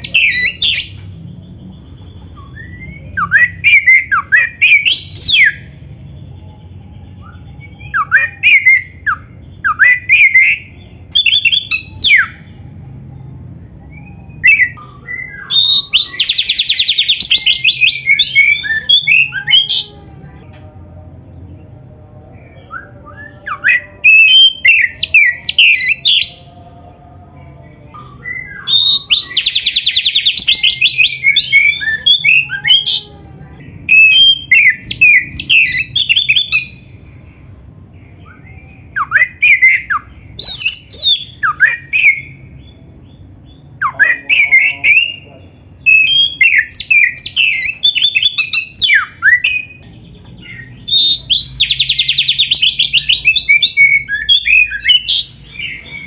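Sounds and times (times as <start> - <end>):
magpie-robin singing: 0.0 - 5.8, 7.2 - 26.7, 27.6 - 56.0.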